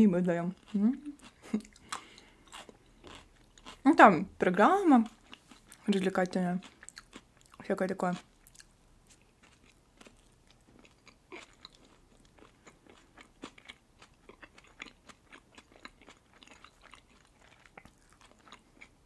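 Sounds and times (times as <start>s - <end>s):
close chewing with mouth clicks: 0.4s - 3.8s, 5.1s - 19.0s.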